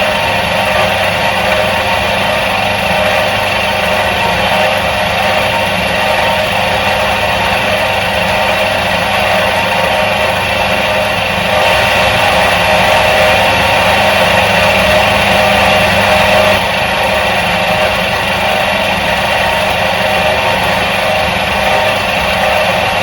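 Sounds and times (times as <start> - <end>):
washing machine motor whirring: 0.0 - 23.0.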